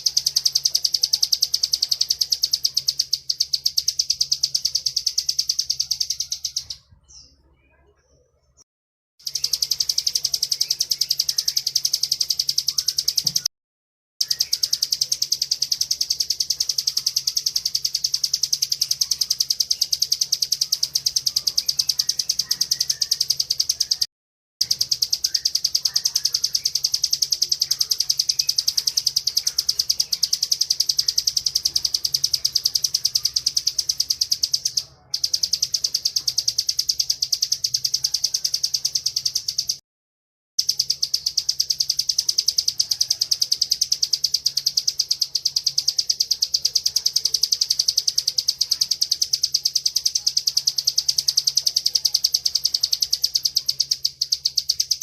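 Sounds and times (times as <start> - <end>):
bird high-pitched trill: 0.0 - 7.5, 9.2 - 13.5, 14.2 - 39.8, 40.6 - 55.0.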